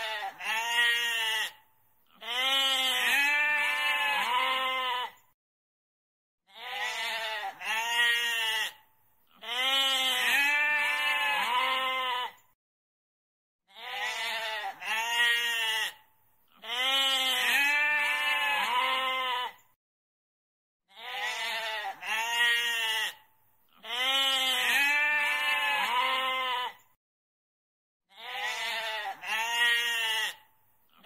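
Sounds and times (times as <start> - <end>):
goat bleating: 0.0 - 5.2, 6.5 - 12.4, 13.7 - 19.6, 20.9 - 26.8, 28.1 - 31.0.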